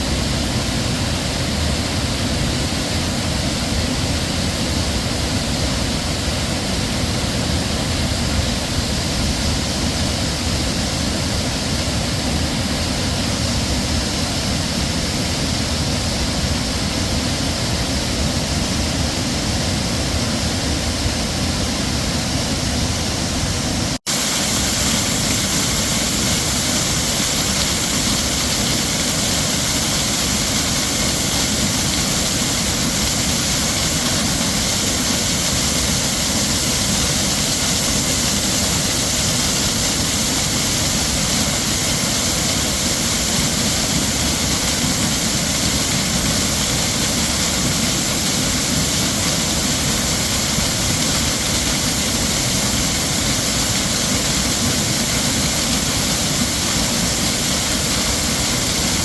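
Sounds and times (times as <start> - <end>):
heavy waterfall rushing: 0.0 - 59.0.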